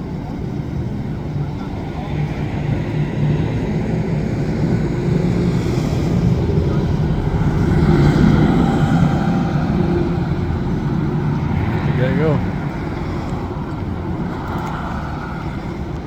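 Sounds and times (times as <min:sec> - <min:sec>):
vehicle passing with low rumble: 0:00.0 - 0:16.0.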